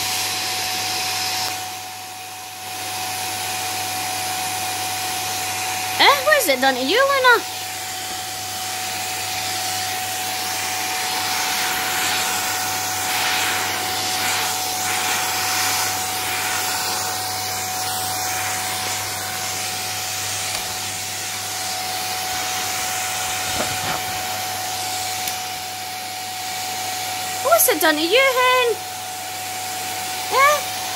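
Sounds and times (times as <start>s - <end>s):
vacuum cleaner running: 0.0s - 30.9s.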